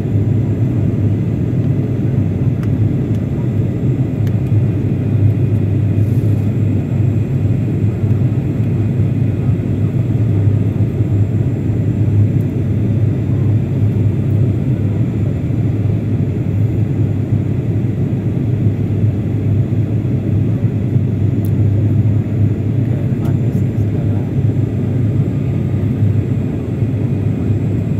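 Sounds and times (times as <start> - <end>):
airliner cabin rumble: 0.0 - 27.9.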